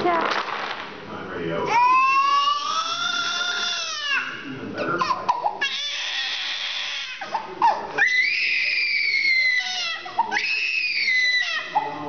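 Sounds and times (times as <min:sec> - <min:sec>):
baby crying: 0:01.6 - 0:12.0.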